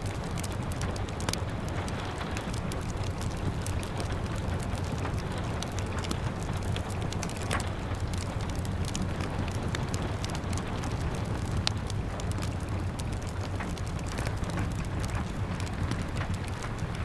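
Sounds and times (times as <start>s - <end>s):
rain: 0.0s - 17.0s
wood fire crackling: 0.0s - 17.0s.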